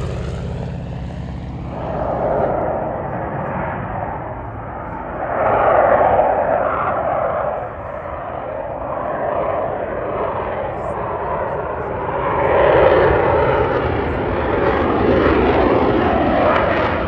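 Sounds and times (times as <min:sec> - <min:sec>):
airplane flying past: 0:00.0 - 0:17.0.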